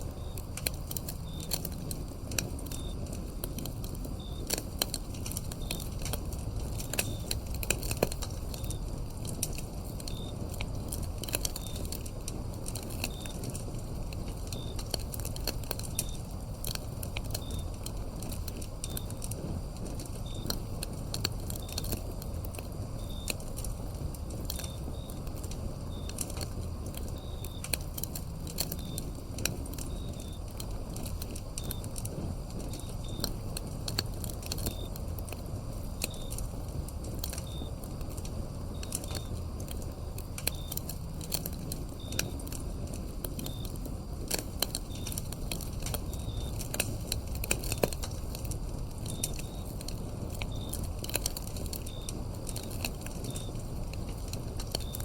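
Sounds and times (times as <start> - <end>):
crickets chirping: 0.0 - 55.0
wood fire crackling and popping: 0.0 - 55.0.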